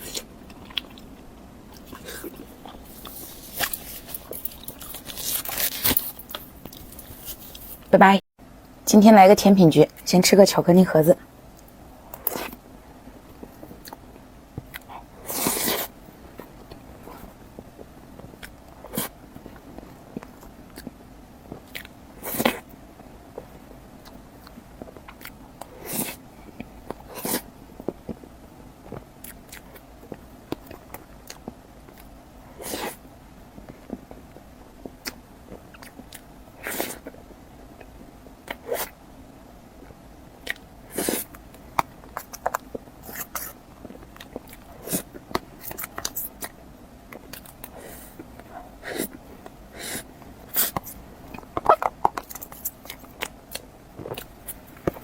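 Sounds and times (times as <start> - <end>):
biting and chewing food: 0.0 - 7.9, 11.5 - 33.0, 33.6 - 38.9, 39.8 - 55.0.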